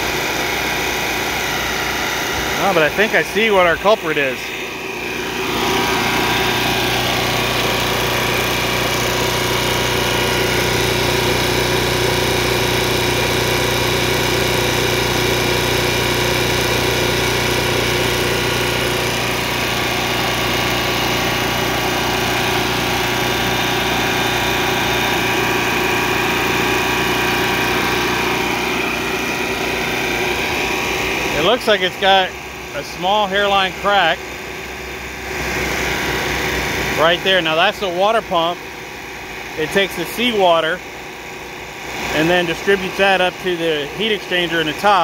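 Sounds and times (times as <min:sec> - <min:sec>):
generator running: 0:00.0 - 0:45.0.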